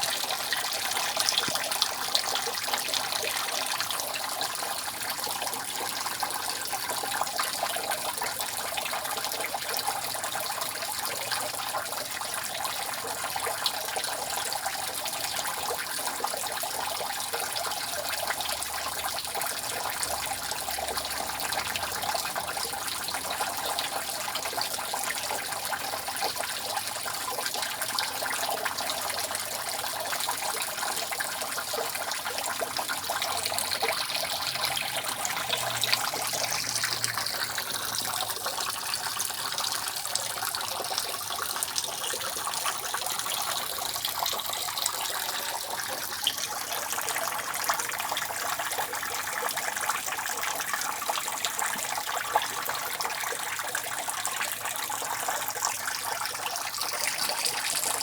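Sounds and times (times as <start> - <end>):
running water rush: 0.0 - 58.0
water dripping off roof: 0.0 - 58.0.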